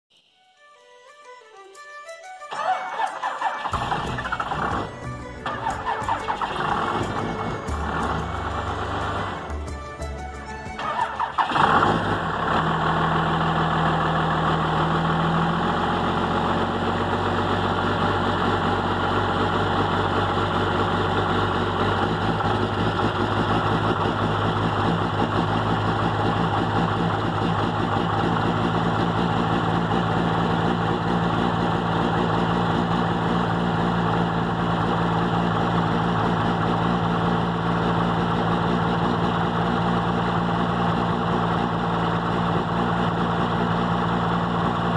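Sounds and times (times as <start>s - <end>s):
diesel engine starting and idling: 2.5s - 44.9s.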